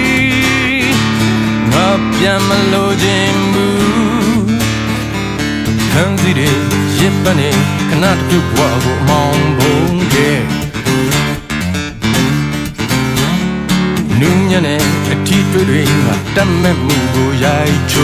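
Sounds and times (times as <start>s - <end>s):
man singing: 0.0s - 11.2s, 14.0s - 18.0s
acoustic guitar strummed and picked: 0.0s - 18.0s.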